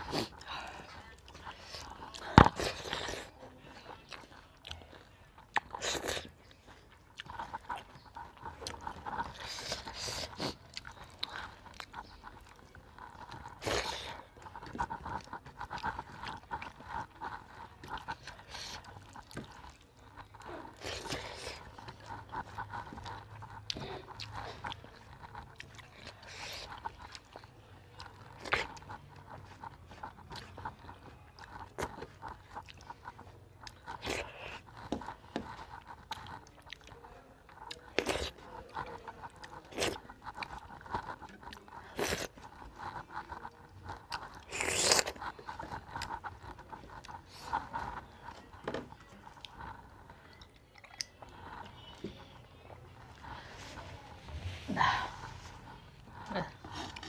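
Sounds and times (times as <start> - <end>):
person chewing: 0.0 - 57.0.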